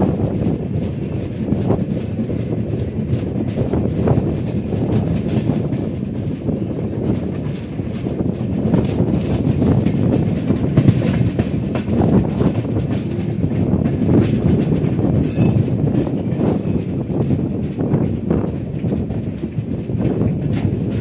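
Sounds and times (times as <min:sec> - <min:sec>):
train wheels rumbling on rail: 0:00.0 - 0:21.0
wheels clattering over rail joints: 0:00.0 - 0:21.0.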